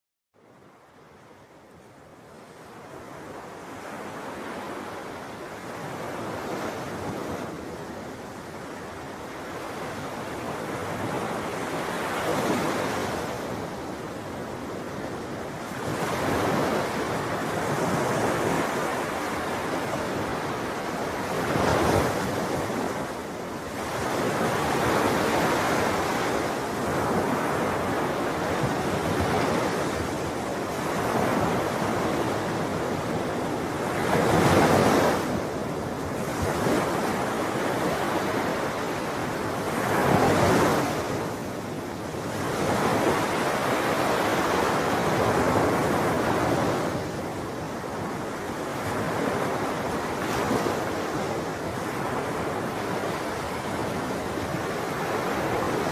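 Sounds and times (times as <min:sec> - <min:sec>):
ocean waves breaking: 0:02.5 - 0:55.9.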